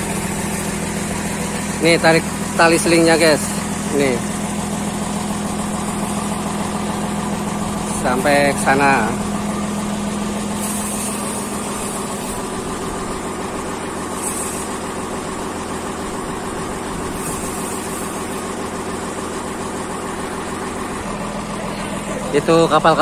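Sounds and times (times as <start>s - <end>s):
winch engine running: 0.0s - 23.0s.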